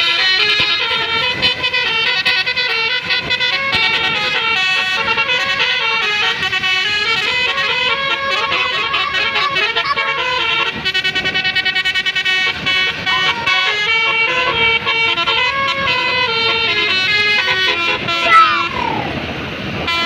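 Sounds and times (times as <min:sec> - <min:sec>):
musical bus horn playing tune: 0:00.0 - 0:20.0.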